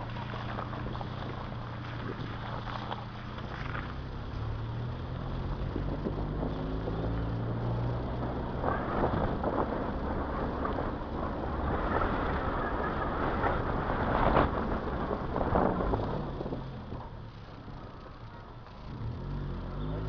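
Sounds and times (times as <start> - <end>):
wind buffeting microphone: 0.0 - 18.2
knocks and rattles over bumps: 0.0 - 19.2
car engine and road rumble: 0.0 - 20.0.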